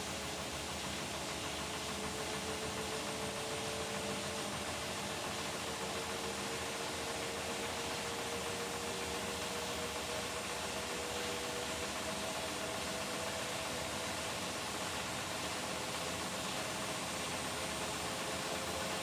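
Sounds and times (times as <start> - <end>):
washing machine whirring hum: 0.0 - 19.0.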